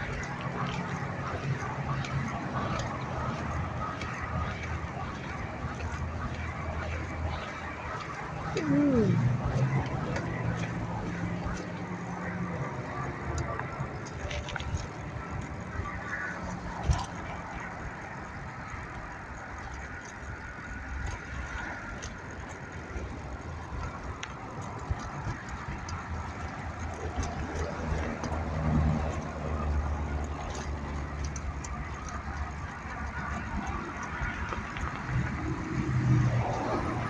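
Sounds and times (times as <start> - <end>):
street traffic rumbling: 0.0 - 37.0
vehicle engine hum: 0.0 - 37.0.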